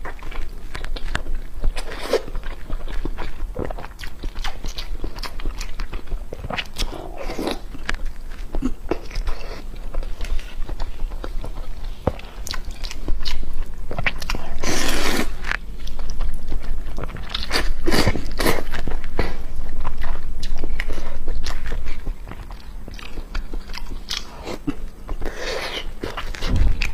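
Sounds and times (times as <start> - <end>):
person chewing food: 0.0 - 26.9.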